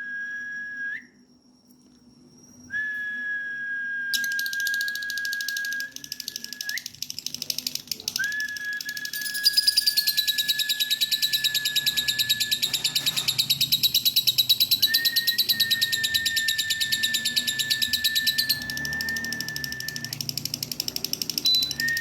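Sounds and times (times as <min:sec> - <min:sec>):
high whistle-like tone: 0:00.0 - 0:01.5, 0:02.5 - 0:07.2, 0:08.0 - 0:20.4, 0:21.4 - 0:22.0.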